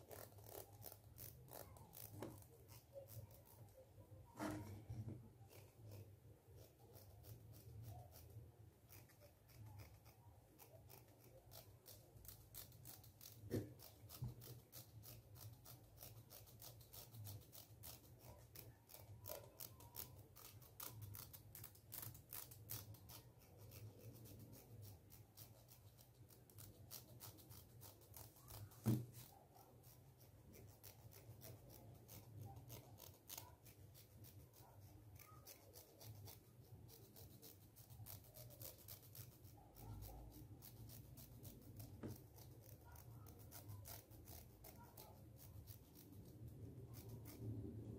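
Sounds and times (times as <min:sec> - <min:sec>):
fingernail raking comb teeth: 0:00.0 - 0:03.9, 0:05.4 - 0:47.5.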